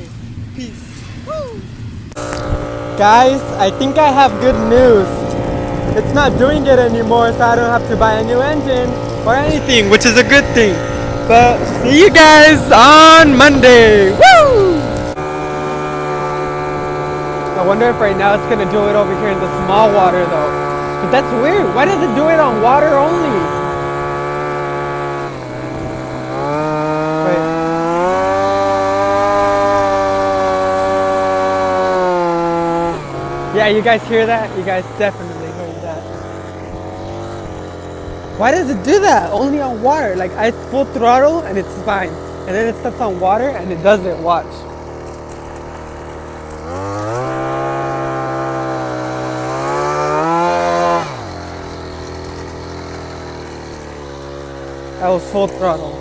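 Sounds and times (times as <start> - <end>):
small engine revving: 0.0 - 56.0
small vehicle motor running: 0.0 - 56.0.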